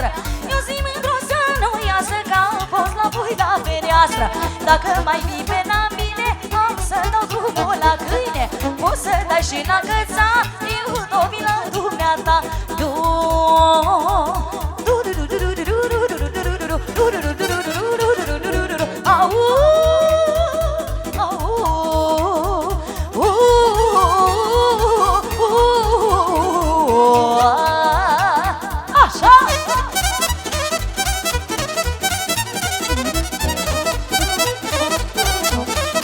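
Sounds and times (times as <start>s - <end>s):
folk party music: 0.0s - 36.0s.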